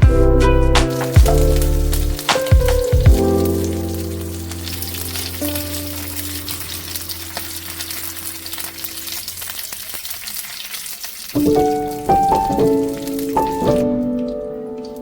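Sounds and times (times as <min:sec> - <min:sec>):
food sizzling in a hot pan: 0:00.6 - 0:14.0.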